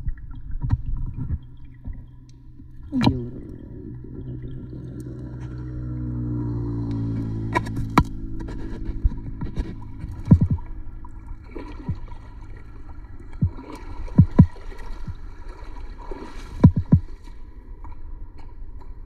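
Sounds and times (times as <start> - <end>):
muffled low knocks: 0.0 - 15.3, 16.6 - 17.1
water sloshing and gurgling: 0.0 - 19.0.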